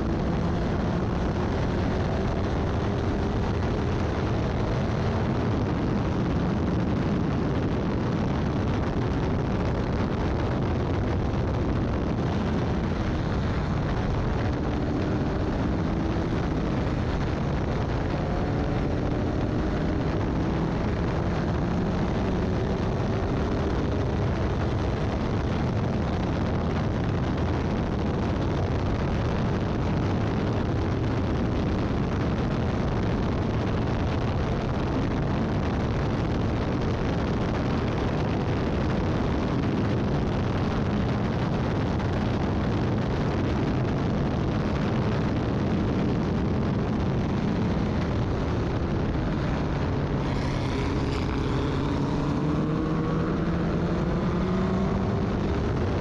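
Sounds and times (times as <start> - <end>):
race car engine roaring: 0.0 - 56.0
wind noise: 0.0 - 56.0.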